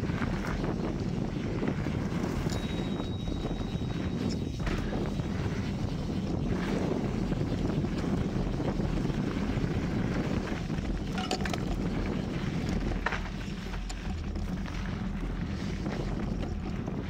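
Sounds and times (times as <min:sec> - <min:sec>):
bike tyres rolling on dirt: 0:00.0 - 0:17.0
wind buffeting microphone: 0:00.0 - 0:17.0.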